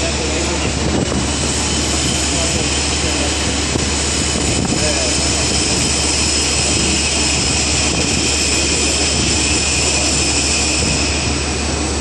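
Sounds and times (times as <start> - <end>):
milling machine cutting steel: 0.0 - 12.0.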